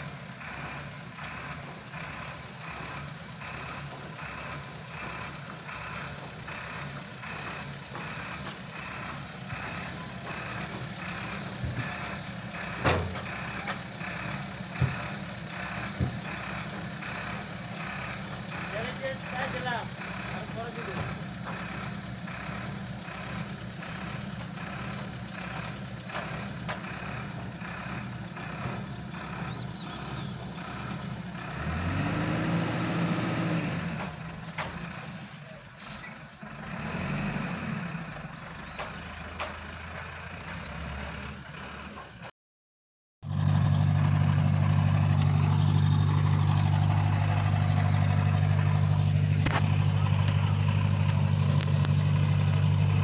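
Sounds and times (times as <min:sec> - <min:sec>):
diesel truck engine idling and revving: 0:00.0 - 0:42.4, 0:43.2 - 0:53.0.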